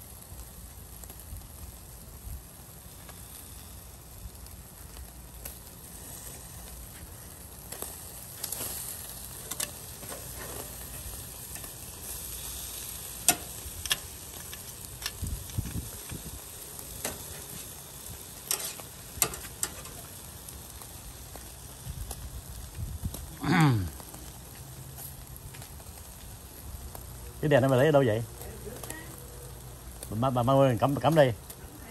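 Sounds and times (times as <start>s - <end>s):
meat sizzling on grill: 0.0s - 31.9s.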